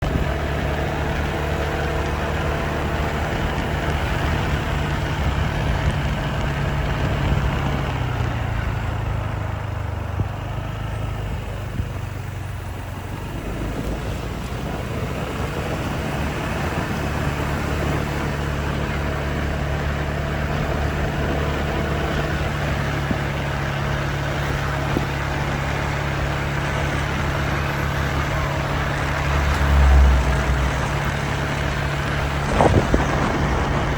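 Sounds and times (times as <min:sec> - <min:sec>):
road noise: 0:00.0 - 0:33.9
vehicle engine running: 0:00.0 - 0:33.9.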